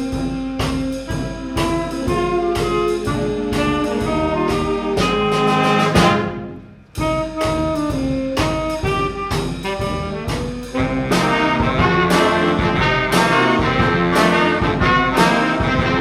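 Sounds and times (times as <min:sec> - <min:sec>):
brass band playing jazz: 0:00.0 - 0:16.0
steady drum beat: 0:00.0 - 0:16.0.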